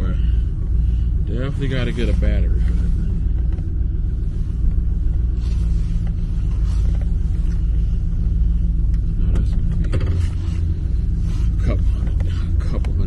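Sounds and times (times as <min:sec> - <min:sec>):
engine idling with deep rumble: 0:00.0 - 0:13.0.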